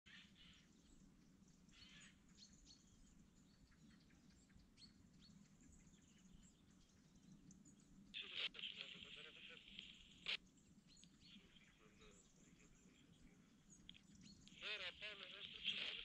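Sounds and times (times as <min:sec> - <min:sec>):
faint bird chirps: 0:00.1 - 0:16.0.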